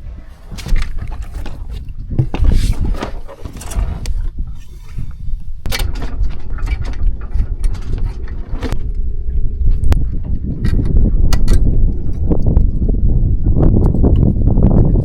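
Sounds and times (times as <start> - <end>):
fluttering low rumble: 0.0 - 15.0.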